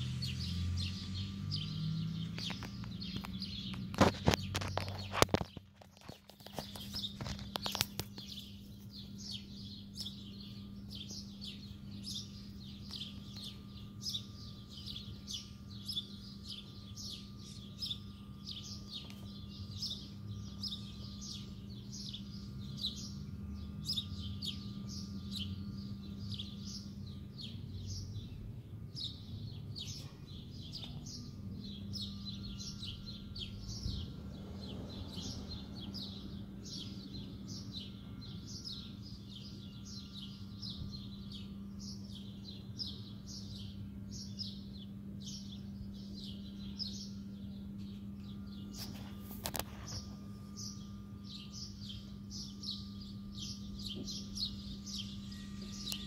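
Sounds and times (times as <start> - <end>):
small bird chirping: 0.0 - 56.0
steady low hum: 0.0 - 56.0.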